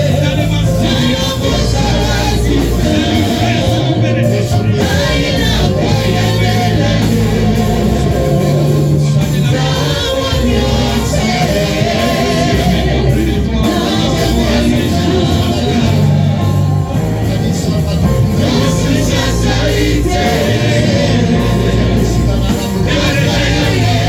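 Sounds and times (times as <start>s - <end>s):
band with bass line: 0.0s - 24.0s
voices singing gospel: 0.0s - 24.0s.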